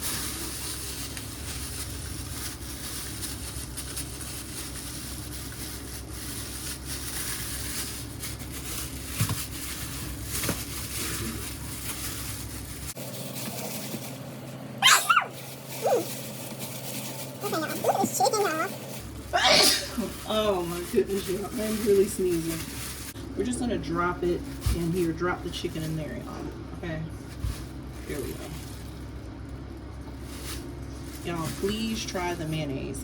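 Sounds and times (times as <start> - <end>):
plastic bag crinkling: 0.0 - 23.6, 27.2 - 33.0.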